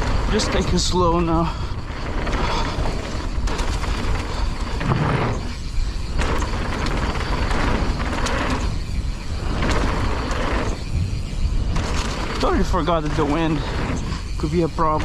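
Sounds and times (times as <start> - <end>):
mountain bike rattling and clicking: 0.0 - 15.0
wind buffeting microphone: 0.0 - 15.0.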